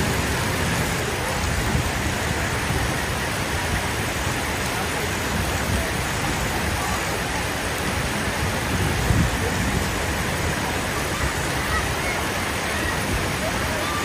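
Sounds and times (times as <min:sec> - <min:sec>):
heavy rain hissing: 0:00.0 - 0:14.0
traffic rumbling on flooded street: 0:00.0 - 0:14.0.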